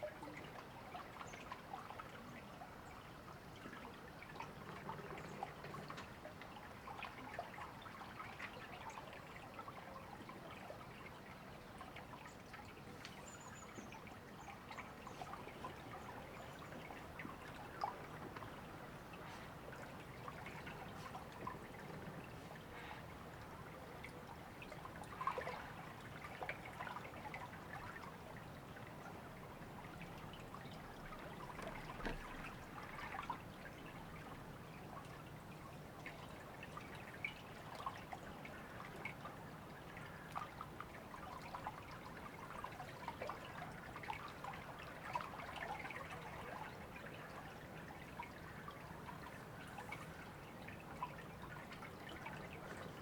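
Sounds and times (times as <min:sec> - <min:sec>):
small river trickling: 0:00.0 - 0:53.0.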